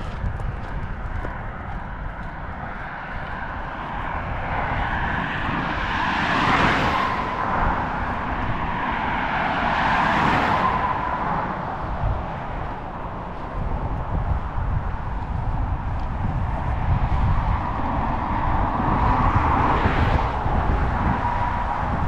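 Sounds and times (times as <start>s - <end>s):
cars passing by: 0.0s - 22.0s.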